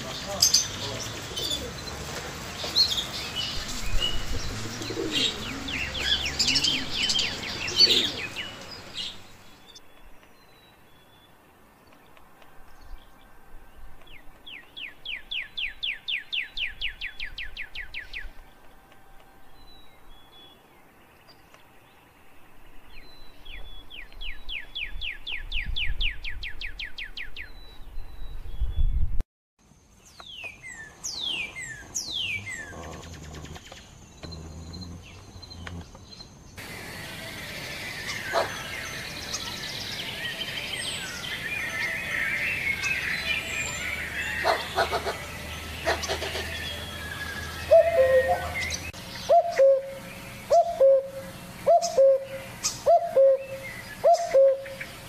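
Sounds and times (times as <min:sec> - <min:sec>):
caged birds chirping: 0:00.0 - 0:29.0, 0:29.7 - 0:55.0.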